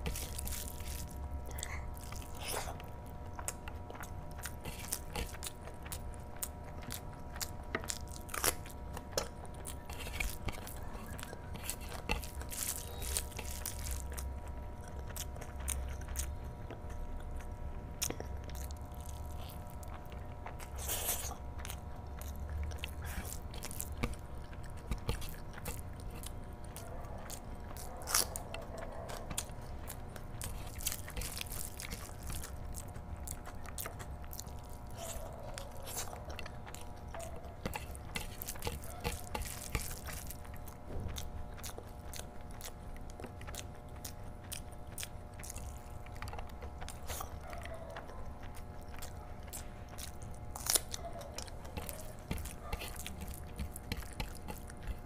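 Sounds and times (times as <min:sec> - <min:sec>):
chewing and lip-smacking: 0:00.0 - 0:55.0
steady low hum: 0:00.0 - 0:55.0.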